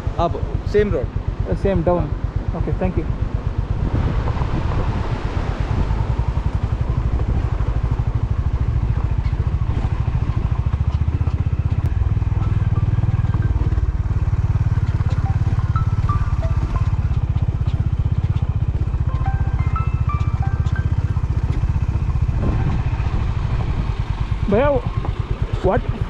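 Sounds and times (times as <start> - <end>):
motorcycle engine thumping: 0.0 - 26.0.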